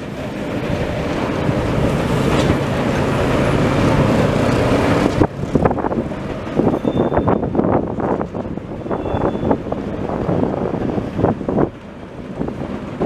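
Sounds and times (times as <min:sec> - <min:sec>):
diesel locomotive running: 0:00.0 - 0:13.0
wind noise on microphone: 0:00.0 - 0:13.0.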